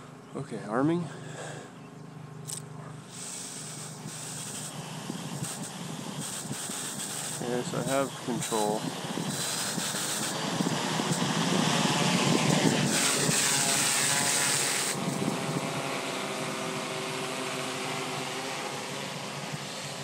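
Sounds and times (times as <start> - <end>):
drone propellers humming: 1.0 - 20.0
loud rushing hiss: 3.1 - 20.0.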